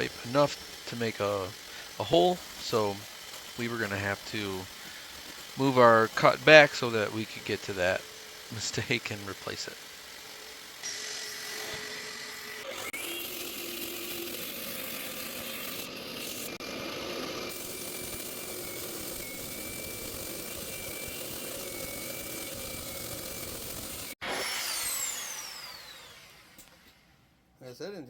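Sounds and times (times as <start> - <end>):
concrete saw cutting: 0.0 - 27.1.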